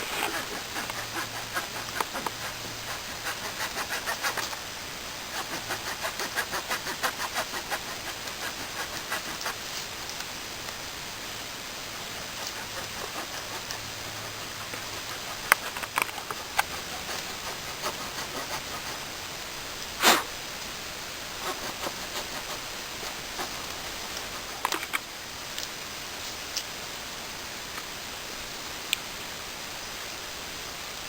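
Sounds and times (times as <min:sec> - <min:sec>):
background hiss: 0:00.0 - 0:31.0.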